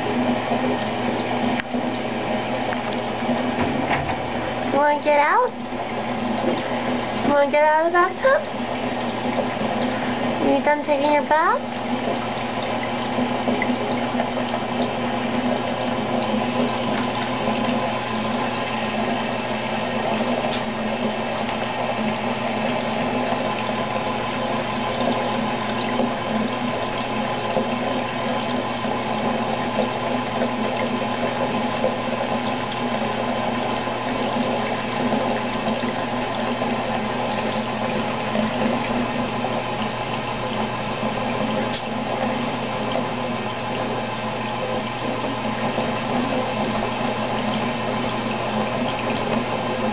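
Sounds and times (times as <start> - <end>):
water pouring from bathtub tap: 0.0 - 49.9.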